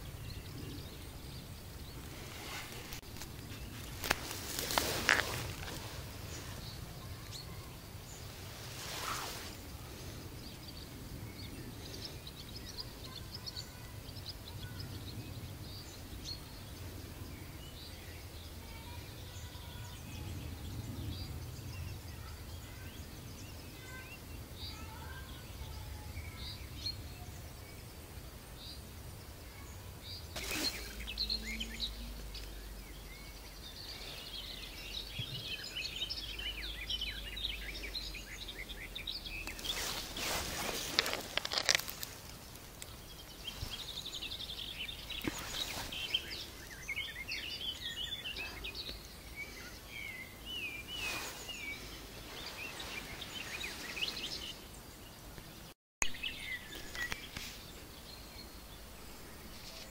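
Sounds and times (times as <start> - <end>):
birds chirping and singing: 0.0 - 28.0, 28.6 - 59.9.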